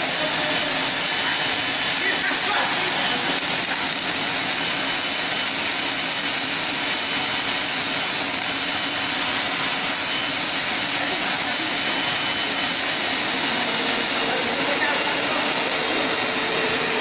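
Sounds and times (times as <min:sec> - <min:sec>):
welding arc hiss and crackle: 0:00.0 - 0:17.0.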